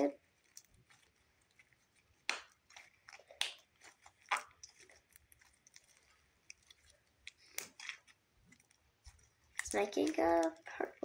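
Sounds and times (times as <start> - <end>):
slime squishing and popping: 0.0 - 11.0.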